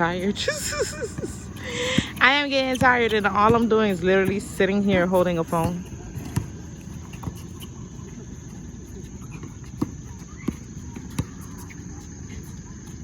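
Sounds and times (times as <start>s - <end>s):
high insect chirr: 0.0s - 13.0s
low murmur of game: 0.0s - 13.0s.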